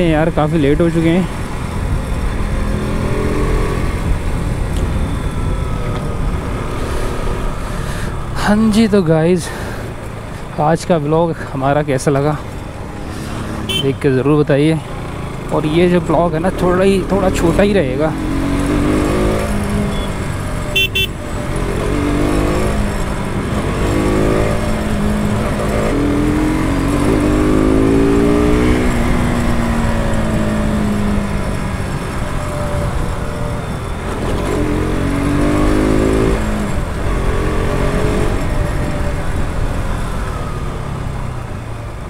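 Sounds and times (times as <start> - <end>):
motorcycle engine accelerating: 0.0 - 7.9, 14.6 - 42.0
road traffic: 0.0 - 42.0.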